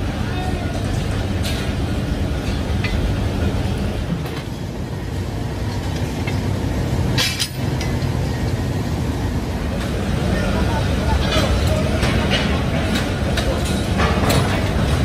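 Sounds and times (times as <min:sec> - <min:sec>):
factory machinery rumble: 0:00.0 - 0:15.0.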